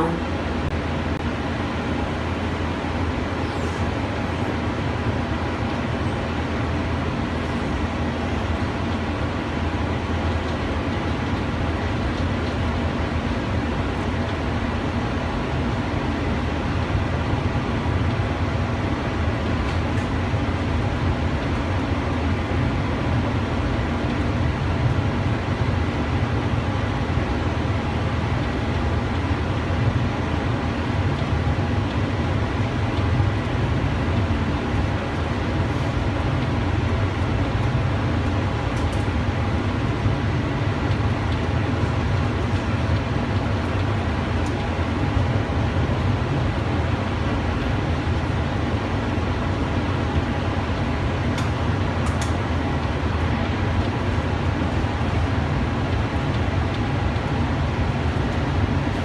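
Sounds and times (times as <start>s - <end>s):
cable car running rumble: 0.0s - 59.0s.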